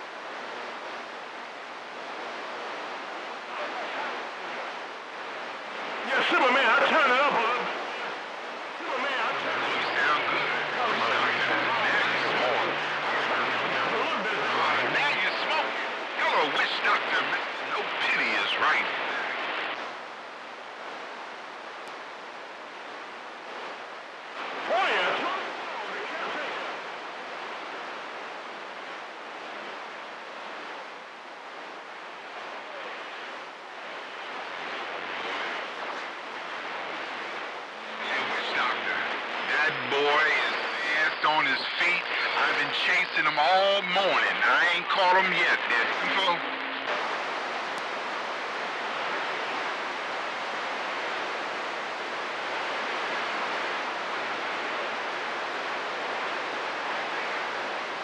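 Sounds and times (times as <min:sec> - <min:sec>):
faint low hum: 0:00.0 - 0:58.0
radio static hiss: 0:00.0 - 0:58.0.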